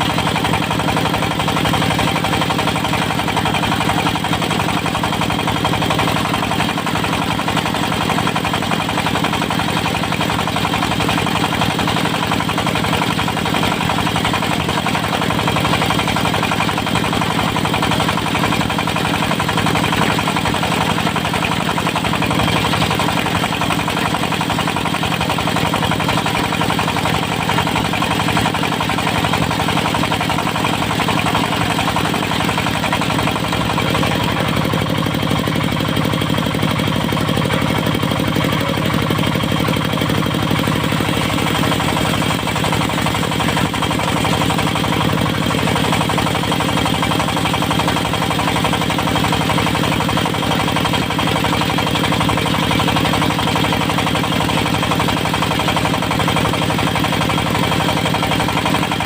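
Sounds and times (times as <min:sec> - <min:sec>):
diesel engine driving sawmill: 0:00.0 - 0:59.0.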